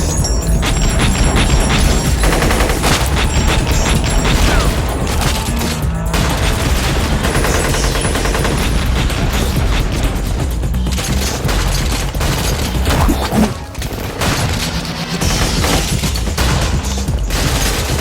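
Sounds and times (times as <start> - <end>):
rapid overlapping gunfire: 0.0 - 18.0.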